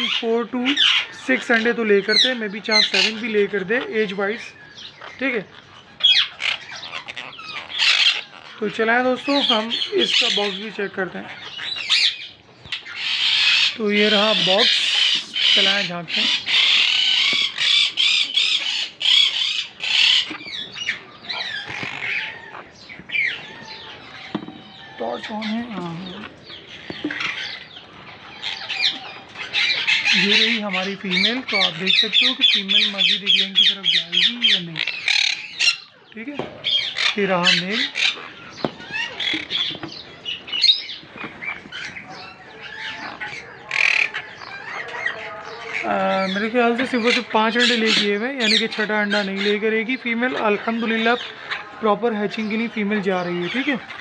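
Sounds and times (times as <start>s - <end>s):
parrots squawking: 0.0s - 54.0s.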